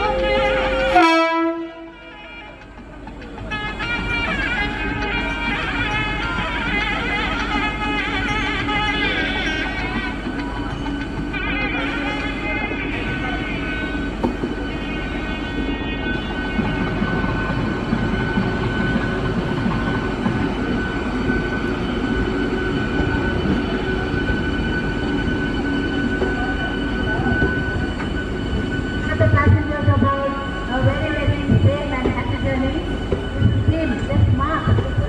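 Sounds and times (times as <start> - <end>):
train high whine: 0.0 - 35.0
train wheels rumbling: 0.0 - 35.0.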